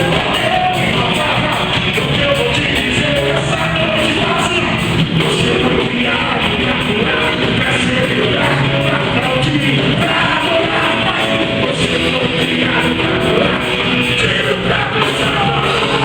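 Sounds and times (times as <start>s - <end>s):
person singing: 0.0s - 16.0s
rock band playing: 0.0s - 16.0s.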